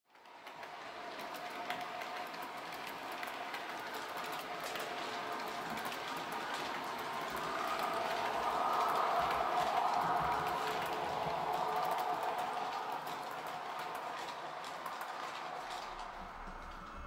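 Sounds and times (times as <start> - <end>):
model train wheels clicking on track: 0.1 - 17.0.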